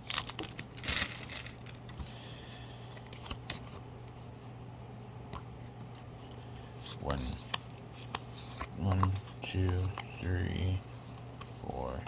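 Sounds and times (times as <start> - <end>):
cards rustling: 0.0 - 4.2, 6.0 - 12.0
faint steady hum: 0.0 - 12.0.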